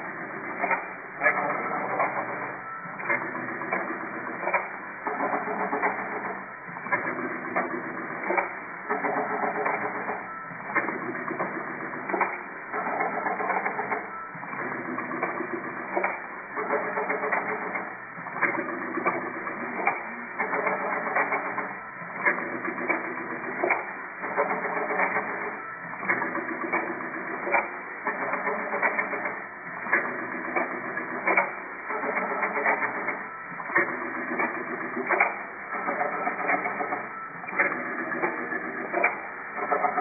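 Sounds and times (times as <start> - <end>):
machine clacking: 0.0 - 40.0
mechanical clatter: 0.1 - 40.0.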